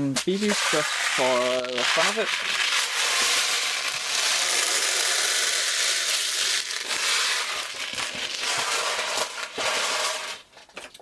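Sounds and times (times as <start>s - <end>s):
plastic pellets rattling: 0.3s - 11.0s.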